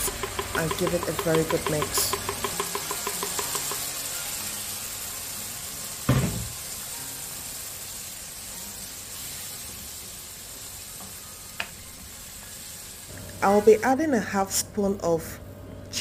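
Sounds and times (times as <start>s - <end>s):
sauce sizzling in hot oil: 0.0s - 14.6s.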